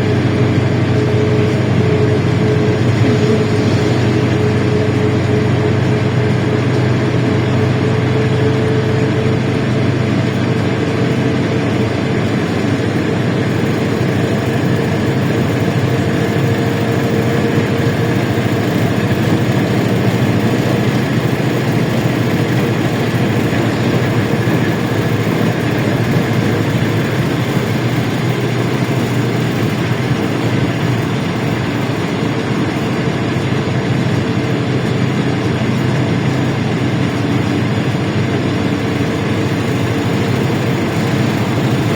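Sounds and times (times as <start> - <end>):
bus engine droning: 0.0 - 41.9.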